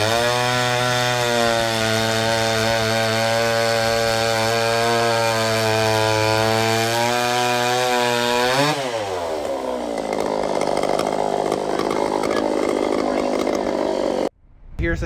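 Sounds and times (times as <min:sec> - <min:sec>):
chainsaw cutting log: 0:00.0 - 0:14.3.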